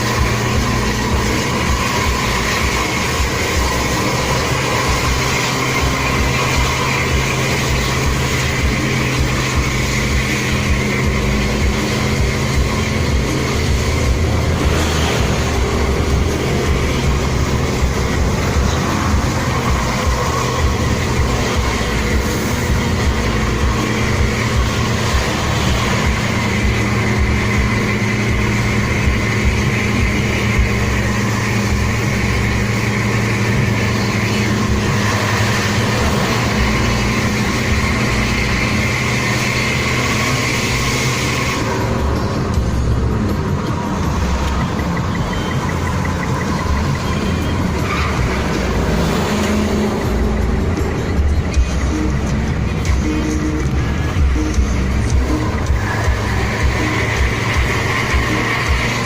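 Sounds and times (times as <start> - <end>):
road and wind noise: 0.0 - 59.0
vehicle engine drone: 0.0 - 59.0.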